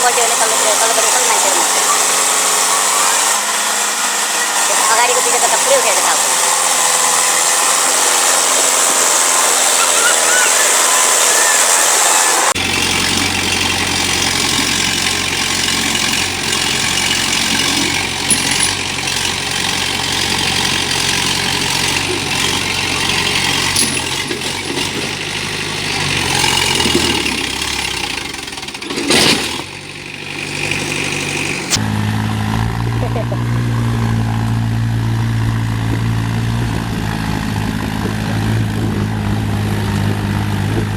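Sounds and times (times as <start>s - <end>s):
deeper engine: 0.0s - 40.9s
tractor engine running: 0.0s - 40.9s.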